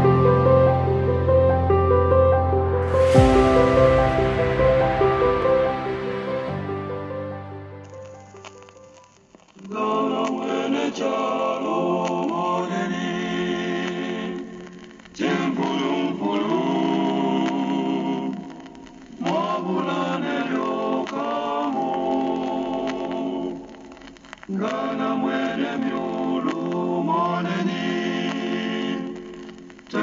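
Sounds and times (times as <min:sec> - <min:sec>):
choir singing a cappella: 0:00.0 - 0:07.8, 0:09.6 - 0:30.0.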